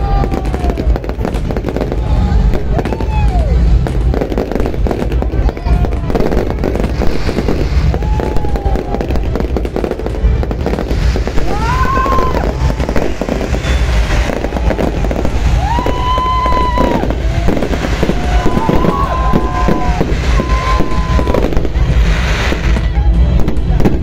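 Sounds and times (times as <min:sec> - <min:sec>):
fireworks crackling: 0:00.0 - 0:24.0
whistling fireworks: 0:00.0 - 0:24.0.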